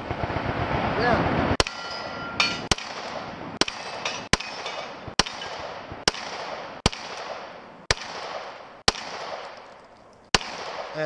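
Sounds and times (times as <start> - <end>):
gunshots: 1.3 - 9.7, 10.3 - 11.0.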